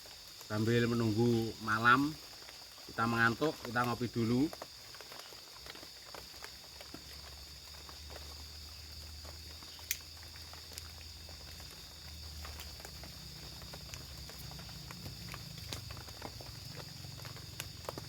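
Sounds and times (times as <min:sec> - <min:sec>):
high-pitched insect chorus: 0:00.0 - 0:18.0
rain dripping and pattering: 0:00.0 - 0:18.0.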